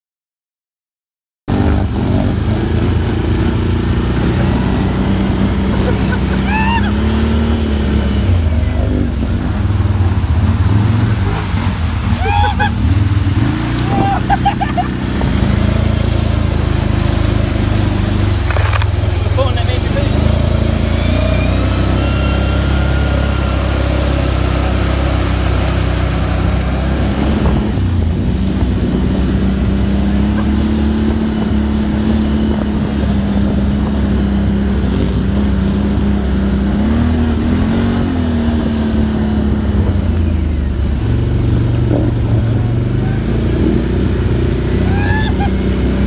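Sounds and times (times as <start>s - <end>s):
atv engine droning: 1.5s - 46.0s
water churning: 1.5s - 46.0s.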